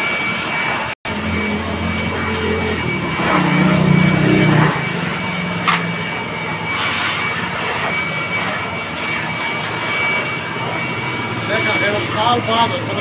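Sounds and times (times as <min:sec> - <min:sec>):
electric air blower whining: 0:00.0 - 0:13.0
deep hum: 0:01.1 - 0:13.0.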